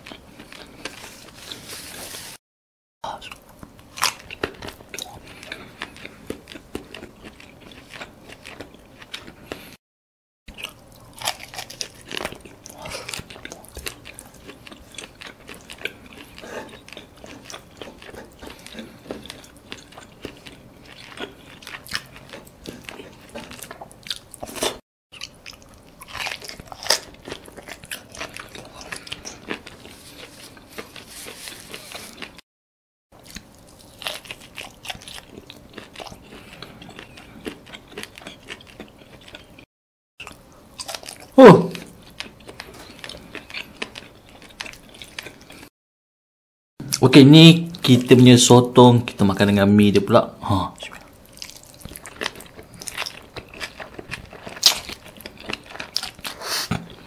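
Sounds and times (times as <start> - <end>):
person chewing food: 0.0 - 2.4, 3.0 - 9.8, 10.5 - 32.4, 33.2 - 45.7, 50.8 - 57.0.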